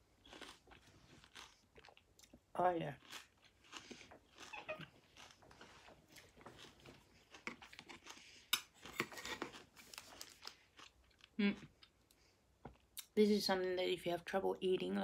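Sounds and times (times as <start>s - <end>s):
chewing juicy fruit: 0.0s - 13.1s.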